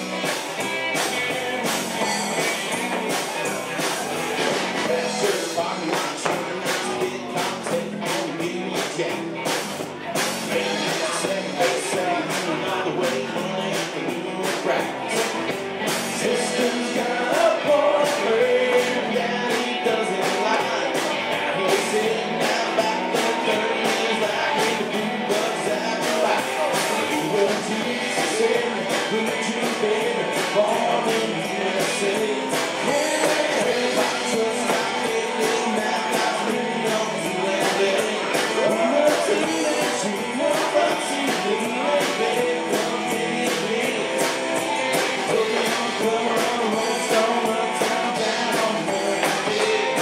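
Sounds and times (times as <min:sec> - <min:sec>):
live country band playing: 0:00.0 - 0:50.0
person singing: 0:00.0 - 0:50.0.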